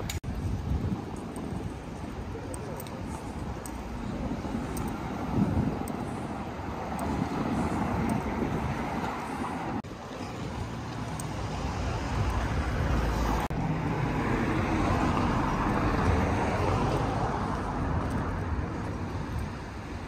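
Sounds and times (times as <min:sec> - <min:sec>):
passing road traffic: 0:00.0 - 0:20.0.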